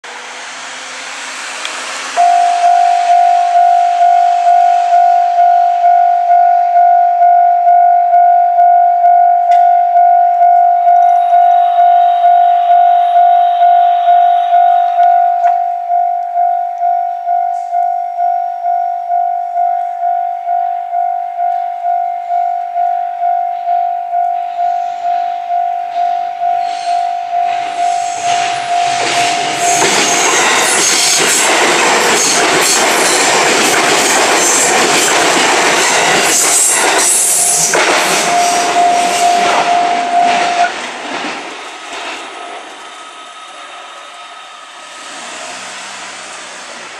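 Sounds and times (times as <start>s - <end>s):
approaching train rushing: 0.0s - 46.9s
steady tone: 0.0s - 46.9s
level-crossing warning bell: 2.1s - 46.4s.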